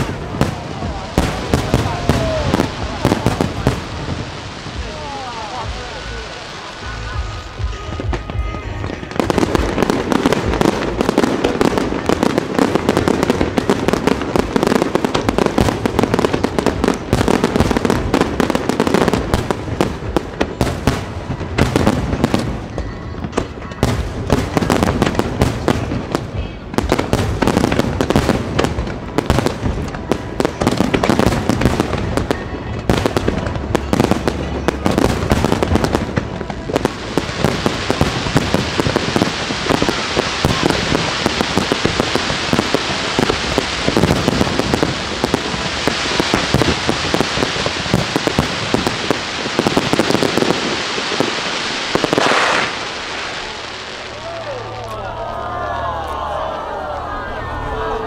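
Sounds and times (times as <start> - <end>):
firework bursts and crackling: 0.0 - 55.1.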